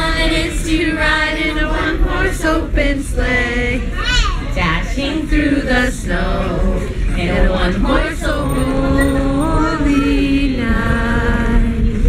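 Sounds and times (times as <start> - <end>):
group of voices singing: 0.0 - 12.0
woman singing into a microphone: 0.0 - 12.0.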